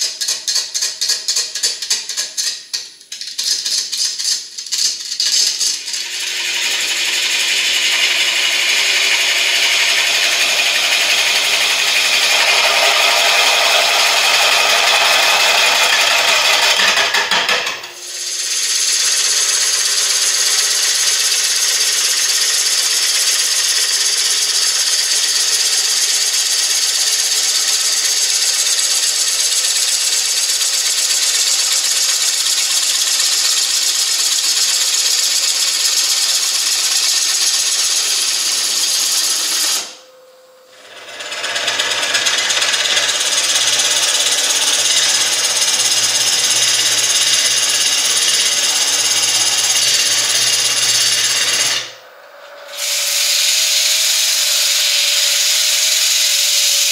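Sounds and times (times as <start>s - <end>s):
gouge cutting wood on lathe: 5.3s - 40.0s, 40.7s - 52.0s, 52.7s - 56.9s
lathe motor hum: 5.8s - 56.9s.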